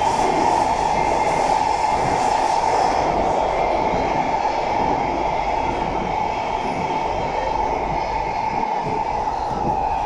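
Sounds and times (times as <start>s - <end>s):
train rumbling through tunnel: 0.0s - 10.0s.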